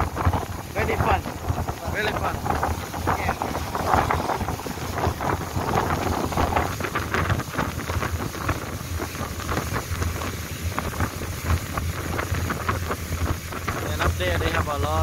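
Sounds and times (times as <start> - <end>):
boat engine droning: 0.0 - 15.0
wind buffeting the microphone: 0.0 - 15.0.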